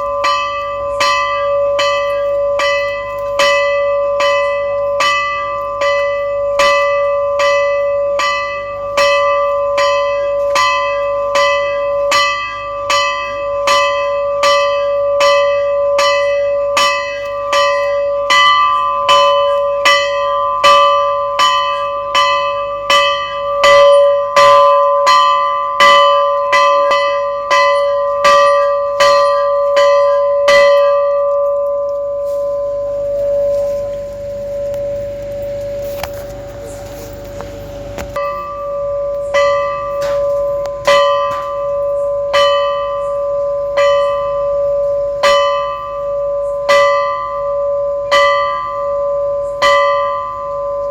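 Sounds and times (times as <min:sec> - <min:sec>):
metal temple bell ringing: 0:00.0 - 0:50.9.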